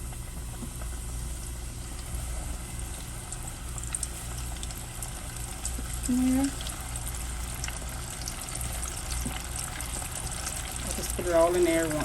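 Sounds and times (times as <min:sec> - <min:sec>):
hot oil hissing and crackling: 0:00.0 - 0:12.0
steady low hum: 0:00.0 - 0:12.0.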